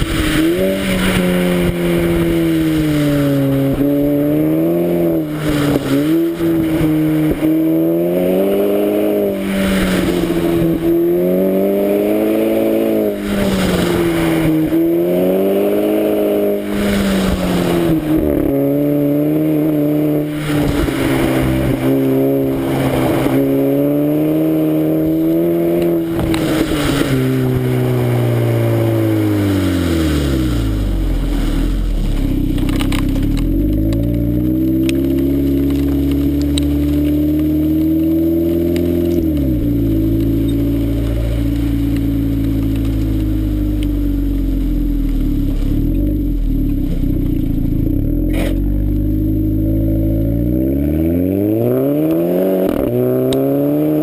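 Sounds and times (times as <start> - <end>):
car exhaust revving: 0.0 - 54.0.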